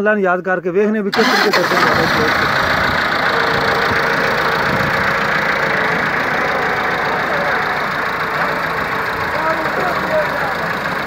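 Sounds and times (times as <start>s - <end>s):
tractor diesel engine running: 1.2s - 11.0s.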